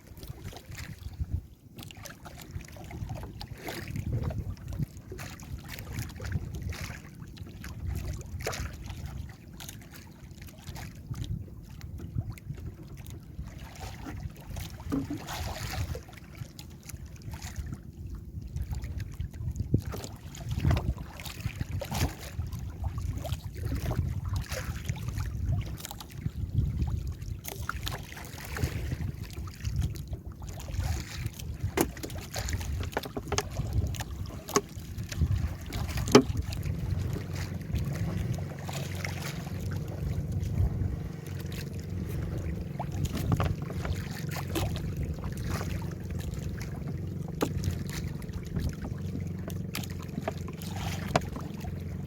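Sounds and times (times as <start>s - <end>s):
wind on microphone: 0.0s - 9.4s, 10.7s - 52.0s
water against boat hull: 0.0s - 52.0s.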